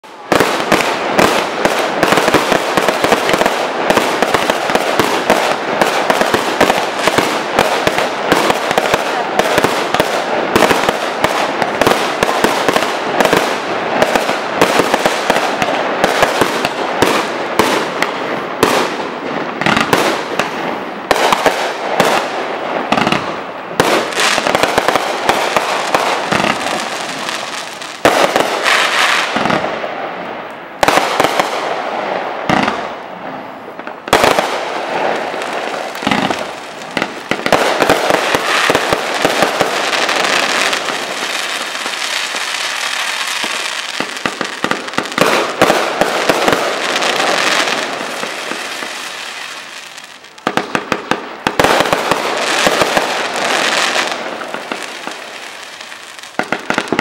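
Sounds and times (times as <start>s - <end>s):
fireworks bursting and crackling: 0.0s - 57.0s
loud firework bangs: 0.0s - 57.0s.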